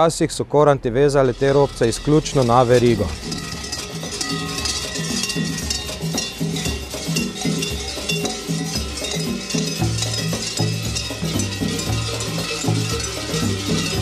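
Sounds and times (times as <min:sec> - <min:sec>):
large cowbells clanging: 0:01.2 - 0:14.0.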